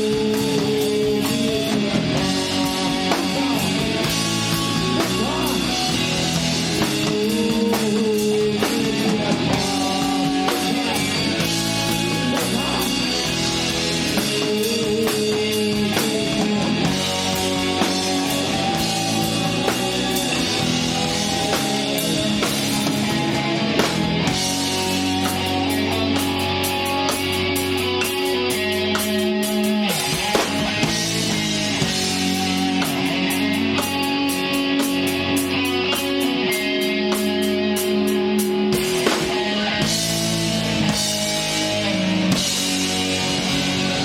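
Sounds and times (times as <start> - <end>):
drum kit beat: 0.0 - 44.0
electric guitar playing: 0.0 - 44.0.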